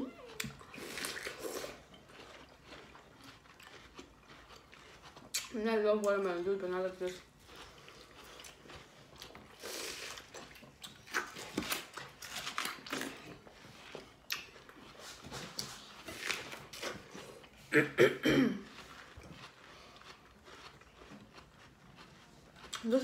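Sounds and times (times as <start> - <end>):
people chewing watermelon: 0.0 - 23.0.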